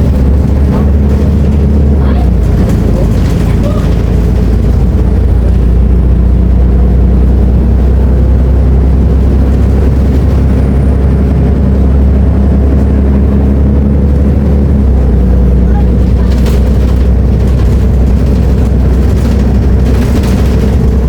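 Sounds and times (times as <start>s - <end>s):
diesel bus engine humming: 0.0s - 21.0s.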